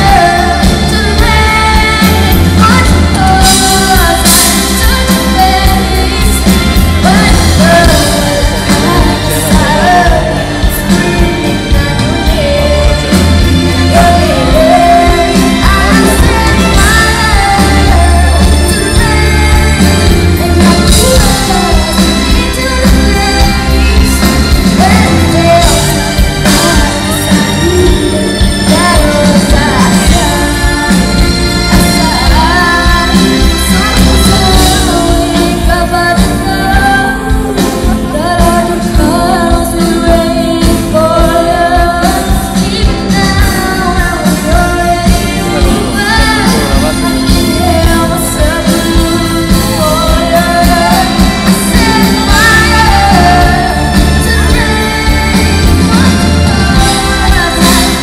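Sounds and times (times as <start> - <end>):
live pop band playing: 0.0 - 58.0
person singing: 0.0 - 58.0.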